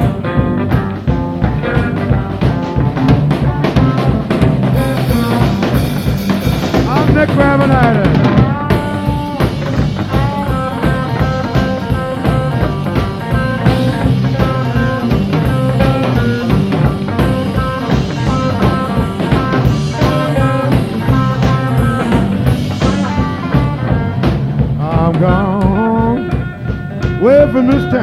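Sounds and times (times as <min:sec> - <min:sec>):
drum kit steady beat: 0:00.0 - 0:28.0
electric bass: 0:00.0 - 0:28.0
electric guitar riff: 0:00.0 - 0:28.0.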